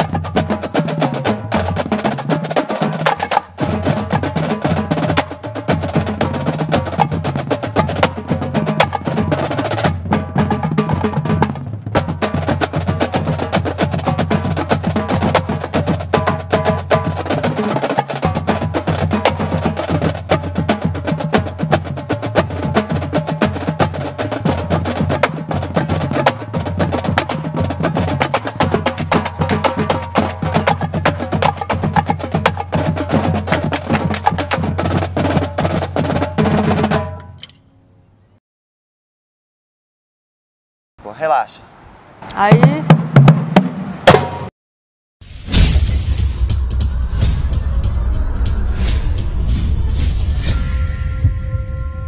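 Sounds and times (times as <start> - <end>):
bass drums: 0.0 - 37.1, 42.3 - 44.5, 45.2 - 52.0
snare drums: 0.0 - 37.6, 42.3 - 44.5, 45.2 - 49.8
tenor drums: 0.0 - 37.6, 42.2 - 44.5, 45.2 - 52.0.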